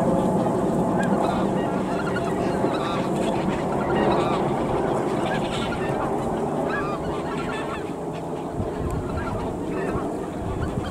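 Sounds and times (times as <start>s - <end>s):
distant geese calls: 0.0s - 10.9s
snow geese honking: 0.0s - 10.9s.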